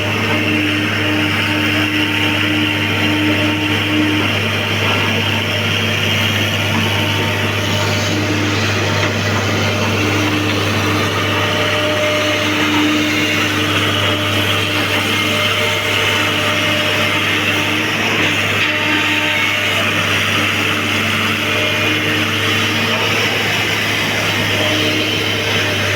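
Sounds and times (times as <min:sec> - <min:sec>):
excavator diesel engine hum: 0:00.0 - 0:25.9.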